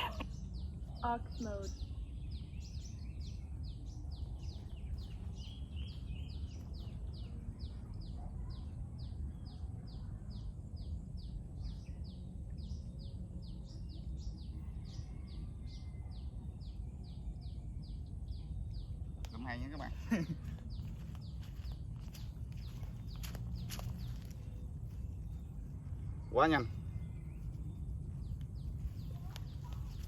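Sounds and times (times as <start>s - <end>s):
bird chirping: 0.0s - 30.0s
steady low rumble: 0.0s - 30.0s.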